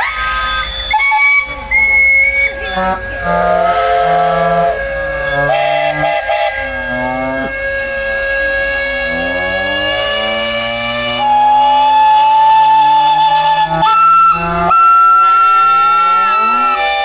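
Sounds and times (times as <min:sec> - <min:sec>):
steam whistles: 0:00.0 - 0:17.0.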